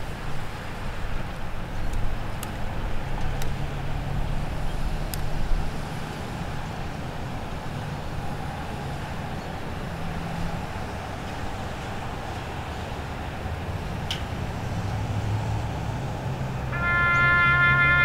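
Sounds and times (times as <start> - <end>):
vehicle engine and tyres rumbling: 0.0 - 18.0.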